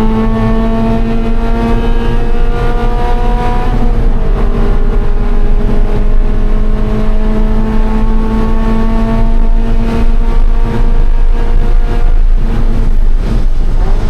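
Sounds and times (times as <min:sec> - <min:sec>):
car engine revving high: 0:00.0 - 0:14.0
road and wind rumble: 0:00.0 - 0:14.0.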